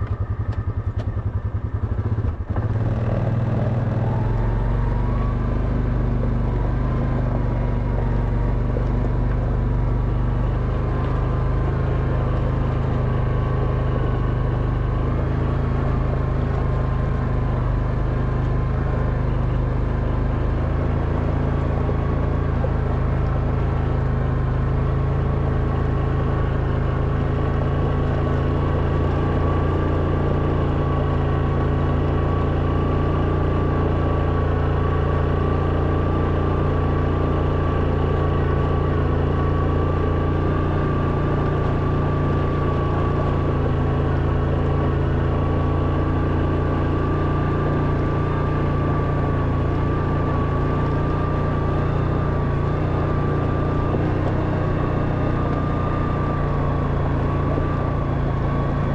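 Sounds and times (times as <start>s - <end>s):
quad bike engine at low revs: 0.0s - 58.9s.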